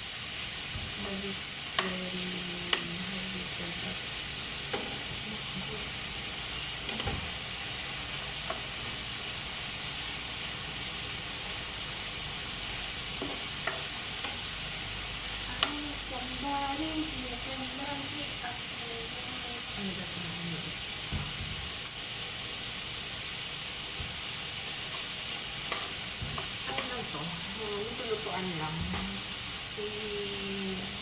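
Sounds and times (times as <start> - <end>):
meat sizzling in a pan: 0.0 - 31.0.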